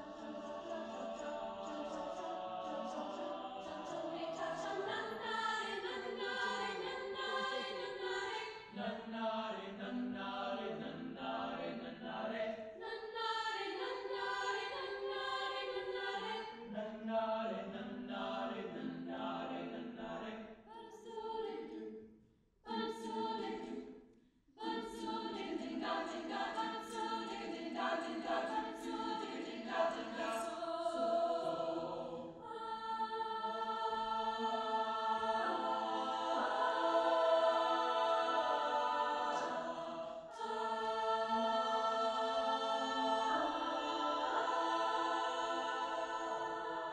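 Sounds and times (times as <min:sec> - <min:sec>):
choir singing in harmony: 0:00.0 - 0:22.0, 0:22.7 - 0:24.0, 0:24.6 - 0:46.9.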